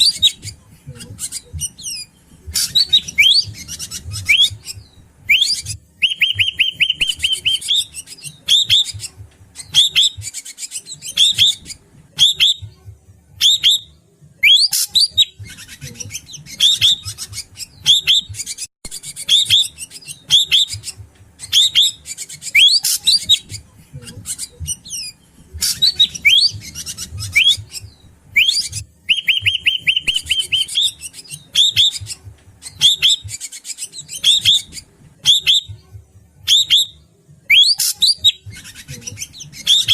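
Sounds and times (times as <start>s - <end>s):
drongo whistled calls: 1.2s - 12.7s, 13.4s - 23.7s, 24.3s - 35.8s, 36.4s - 39.9s.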